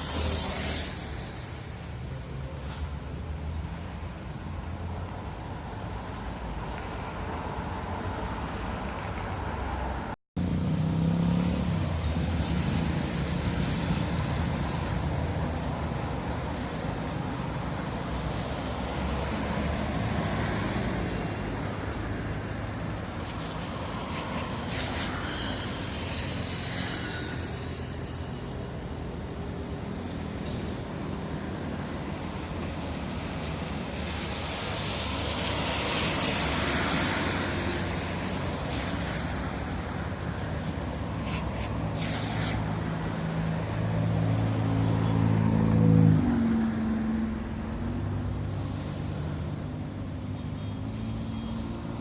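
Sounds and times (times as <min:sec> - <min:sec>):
car and motorbike engines: 0:00.0 - 0:52.0
tyres on road: 0:00.0 - 0:52.0.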